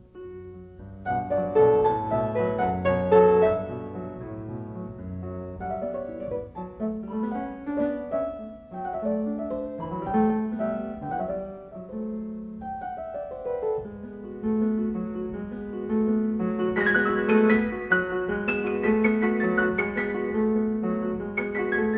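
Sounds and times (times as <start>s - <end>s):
classical piano piece: 0.0s - 21.9s.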